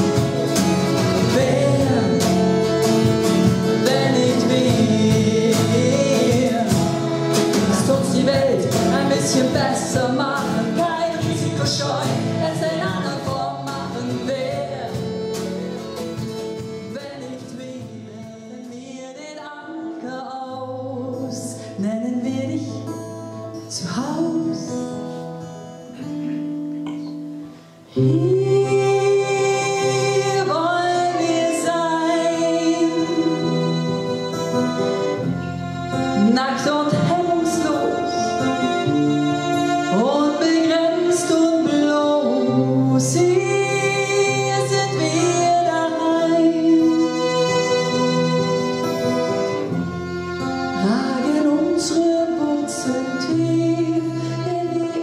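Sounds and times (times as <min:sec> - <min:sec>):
singing voices: 0:00.0 - 0:22.8, 0:27.9 - 0:49.8, 0:50.7 - 0:55.0
fiddle: 0:00.0 - 0:26.8, 0:27.6 - 0:55.0
folk band playing: 0:00.0 - 0:55.0.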